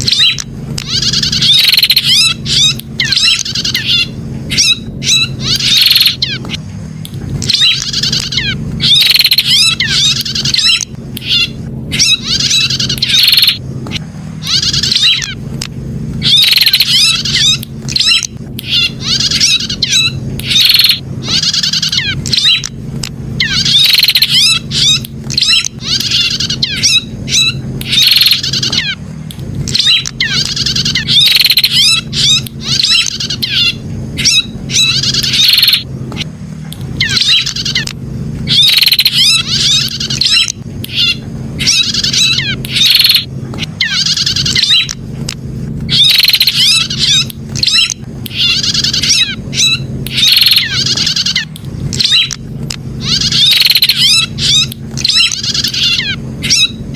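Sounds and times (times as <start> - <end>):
bird chattering calls: 0.0 - 6.7, 7.4 - 15.4, 16.2 - 22.8, 23.4 - 29.0, 29.6 - 45.0, 45.9 - 56.9
steady low hum: 0.0 - 56.9.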